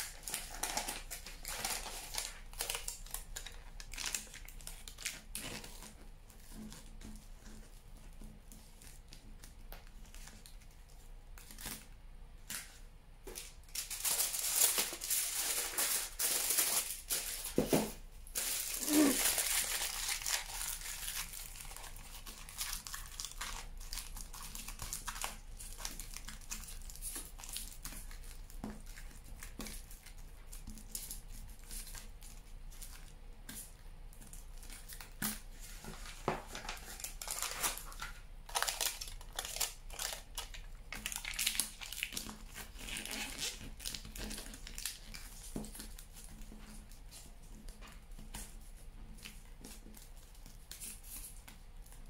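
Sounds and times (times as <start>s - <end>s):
aluminium foil crumpling: 0.0s - 7.6s, 13.3s - 17.6s, 18.3s - 33.1s, 34.2s - 52.0s.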